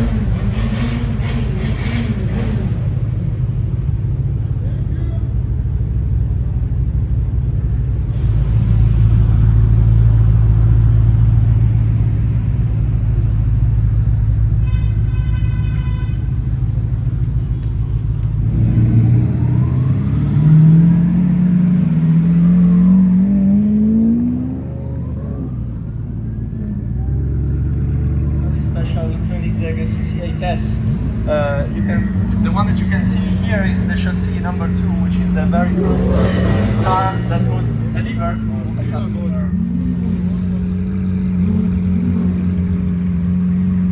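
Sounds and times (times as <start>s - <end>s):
car engine rumbling and accelerating: 0.0s - 43.9s.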